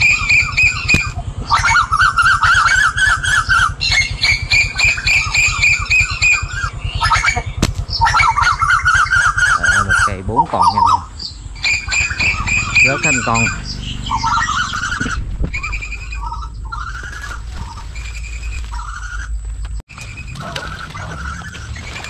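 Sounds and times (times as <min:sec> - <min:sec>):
birds chirping: 0:00.0 - 0:22.0
engine rumbling: 0:00.0 - 0:22.0.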